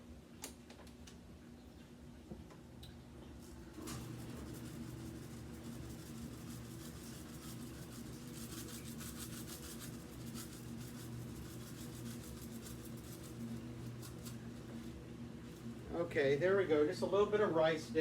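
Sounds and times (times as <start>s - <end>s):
steady low hum: 2.4s - 18.0s.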